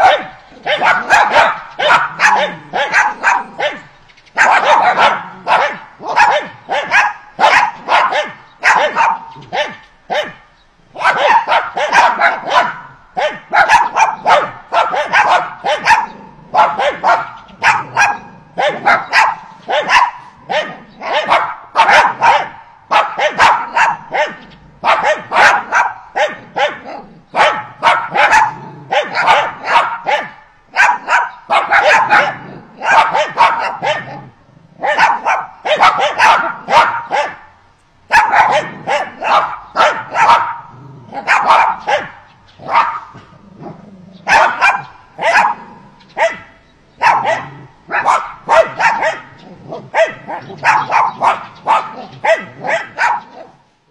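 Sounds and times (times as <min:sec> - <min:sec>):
dog barking: 0:00.0 - 0:53.6.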